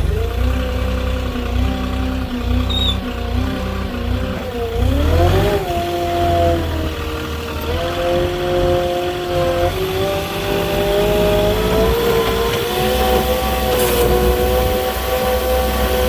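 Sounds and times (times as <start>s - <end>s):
forklift engine hum with whine: 0.0s - 16.0s.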